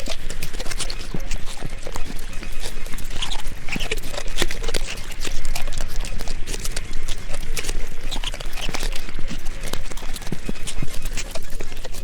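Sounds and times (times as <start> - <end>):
wolves crunching and tearing food: 0.0 - 12.0.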